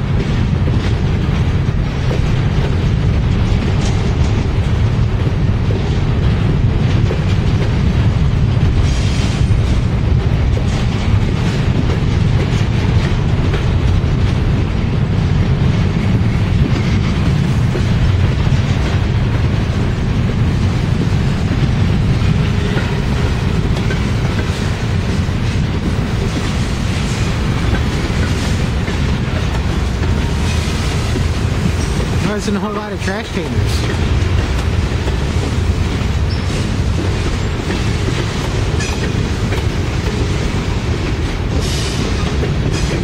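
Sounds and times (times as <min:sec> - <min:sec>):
train wheels rumbling on rail: 0:00.0 - 0:43.0
wheels clicking over rail joints: 0:00.0 - 0:43.0.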